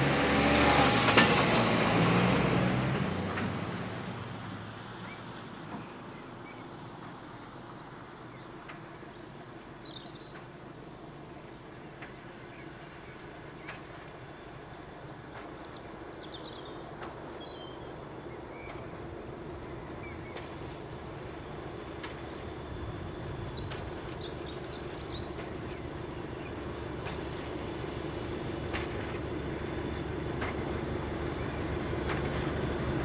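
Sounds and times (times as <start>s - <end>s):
diesel train: 0.0s - 33.0s.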